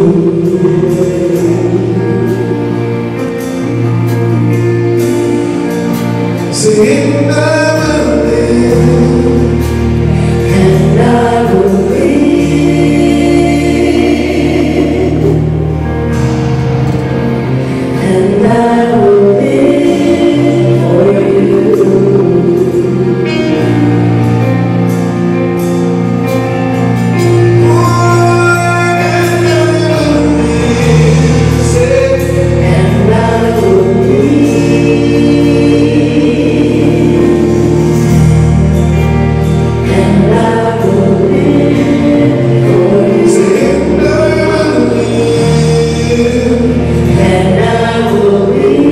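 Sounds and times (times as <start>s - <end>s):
bass line: 0.0s - 48.9s
gospel choir singing: 0.0s - 48.9s.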